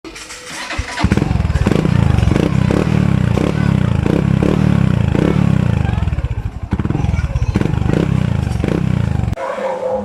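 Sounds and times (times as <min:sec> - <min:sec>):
motorcycle engine exhaust pulse: 0:00.7 - 0:09.4.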